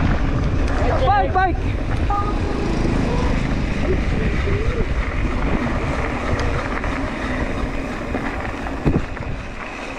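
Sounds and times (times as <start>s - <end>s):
tyres rumbling on dirt trail: 0.0s - 9.9s
wind buffeting microphone: 0.0s - 9.9s.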